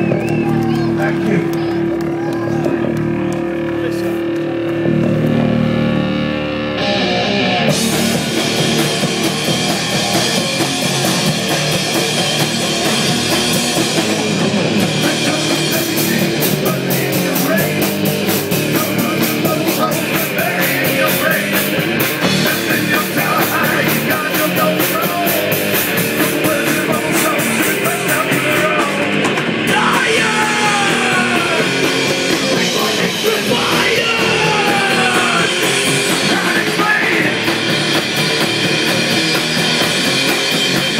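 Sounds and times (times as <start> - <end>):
live punk rock band: 0.0 - 40.9.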